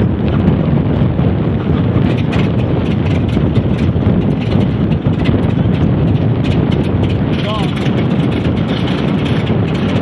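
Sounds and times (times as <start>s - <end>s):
propeller plane engine running: 0.0s - 10.0s.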